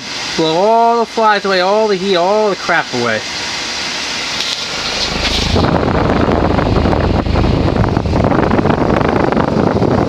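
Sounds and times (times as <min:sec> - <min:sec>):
ceiling fan wind buffeting microphone: 0:01.9 - 0:10.0.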